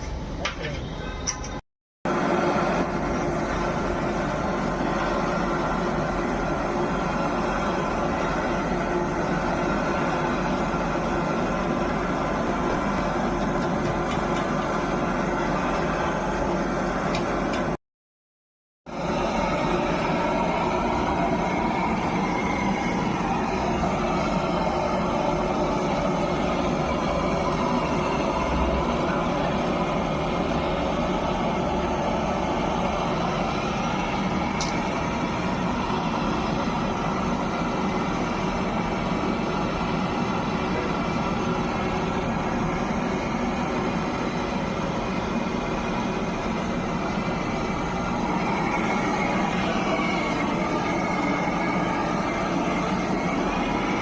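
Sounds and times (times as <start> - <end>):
air conditioner whirring hum: 0.0 - 17.8, 18.9 - 54.0.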